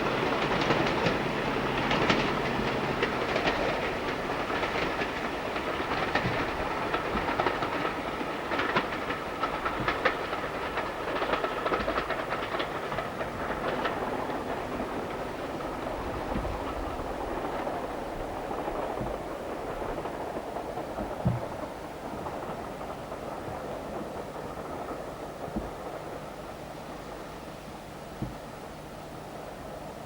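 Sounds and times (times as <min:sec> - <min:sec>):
train rumbling: 0:00.0 - 0:30.0
train wheels clattering: 0:00.0 - 0:30.0.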